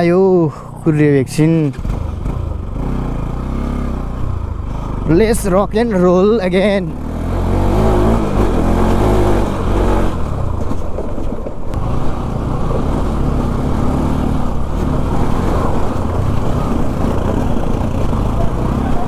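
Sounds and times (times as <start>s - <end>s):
motorcycle engine running: 0.0s - 11.1s, 11.7s - 19.0s.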